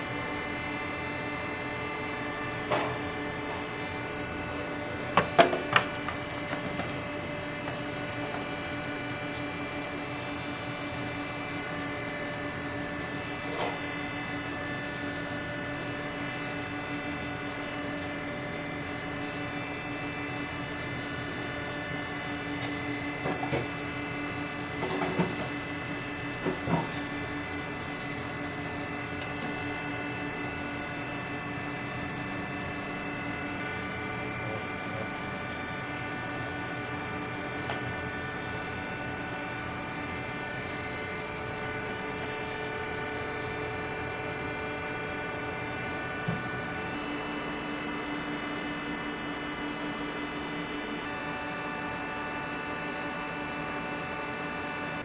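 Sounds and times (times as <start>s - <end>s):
motor hum: 0.0s - 55.0s.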